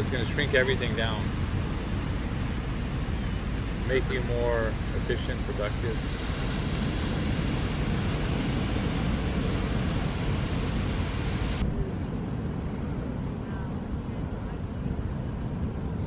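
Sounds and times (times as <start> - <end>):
ocean surf: 0.0 - 16.0
wind buffeting microphone: 0.0 - 16.0.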